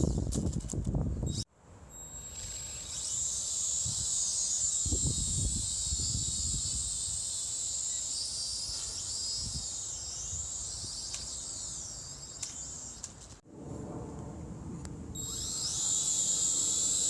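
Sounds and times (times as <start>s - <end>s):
toy drone motors whining: 0.0s - 13.4s, 15.2s - 17.0s.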